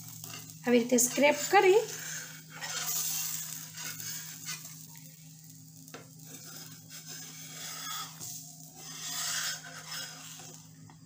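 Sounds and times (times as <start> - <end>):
bread sizzling in butter: 0.0 - 11.0
steel spatula scraping: 0.1 - 4.9, 6.2 - 10.8.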